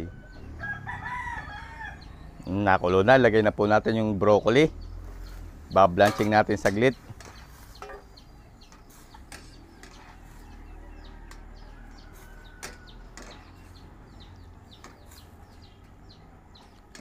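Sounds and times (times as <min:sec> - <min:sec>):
chickens clucking: 0:00.0 - 0:17.0
small birds chirping: 0:00.0 - 0:17.0.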